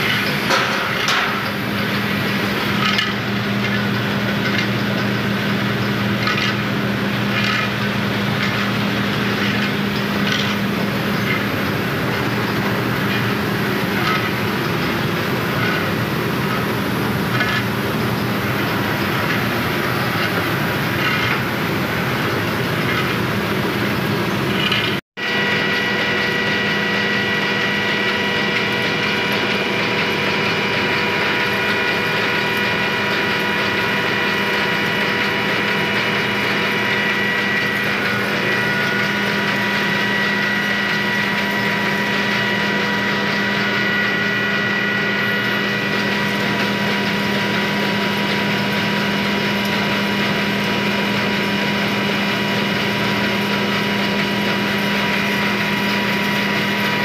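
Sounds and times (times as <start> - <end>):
high whine: 0.0 - 57.0
rice mill machinery rattling: 0.0 - 57.0.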